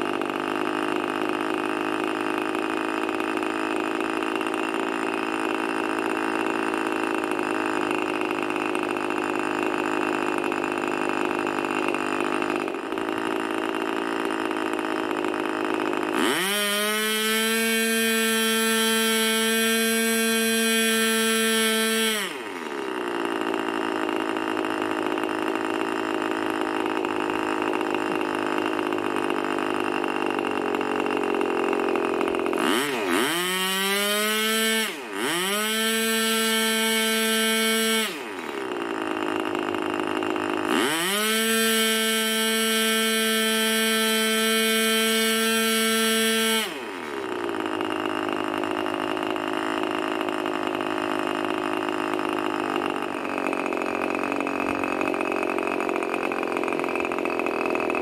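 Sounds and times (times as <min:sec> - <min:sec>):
model glow engine revving: 0:00.0 - 0:58.0.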